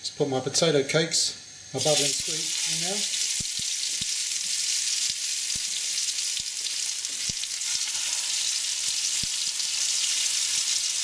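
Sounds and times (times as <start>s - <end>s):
oil sizzling in frying pan: 1.8s - 11.0s.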